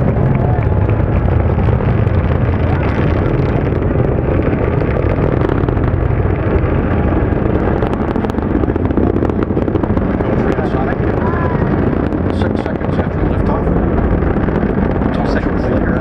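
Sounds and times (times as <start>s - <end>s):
distant rocket engine rumble: 0.0s - 16.0s.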